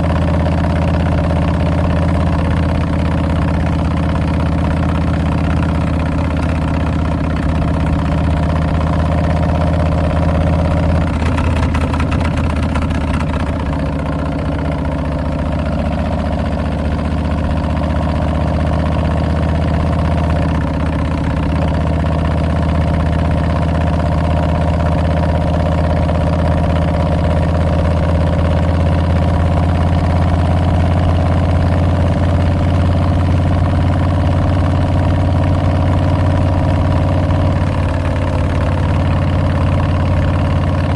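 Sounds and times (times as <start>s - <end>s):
motorcycle engine exhaust: 0.0s - 40.9s.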